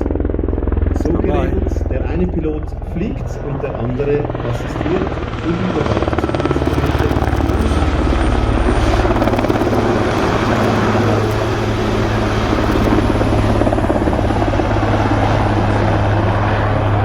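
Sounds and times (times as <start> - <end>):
helicopter rotor blade chop: 0.0 - 17.0
turbine engine drone: 0.0 - 17.0.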